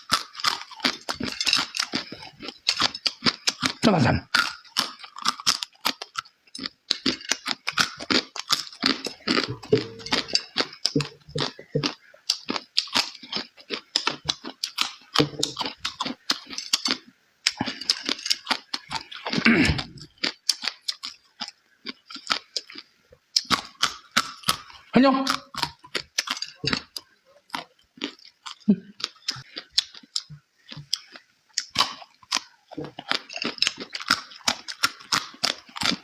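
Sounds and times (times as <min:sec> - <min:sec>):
person chewing and smacking: 0:00.0 - 0:36.0.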